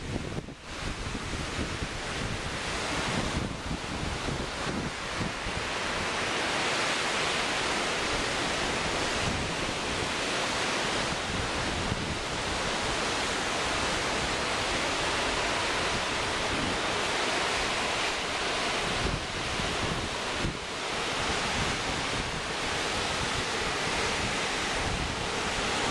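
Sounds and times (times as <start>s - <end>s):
storm waves breaking on shore: 0.0s - 25.9s
wind gusts buffeting microphone: 0.0s - 25.9s.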